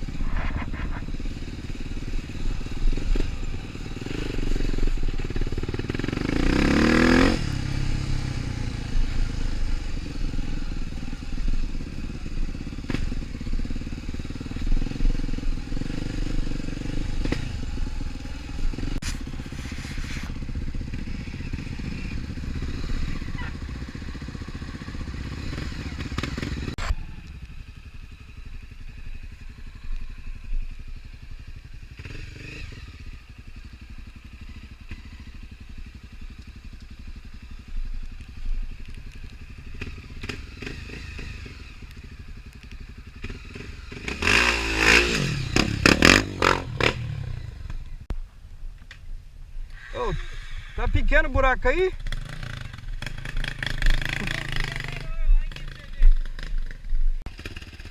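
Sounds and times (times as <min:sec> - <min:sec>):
motorcycle engine revving: 0:00.0 - 0:48.1, 0:49.8 - 0:57.9.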